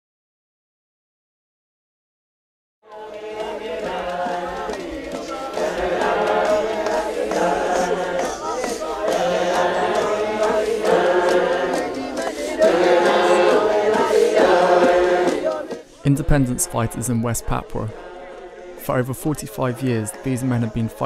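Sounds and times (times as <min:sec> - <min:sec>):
choir chanting: 0:02.8 - 0:21.0.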